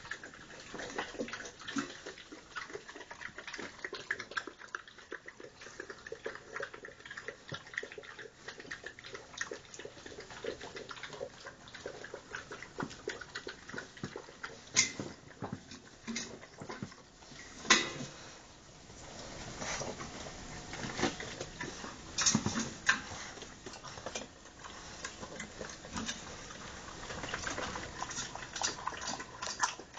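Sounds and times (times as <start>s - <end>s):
puppies lapping and slurping: 0.0s - 29.9s.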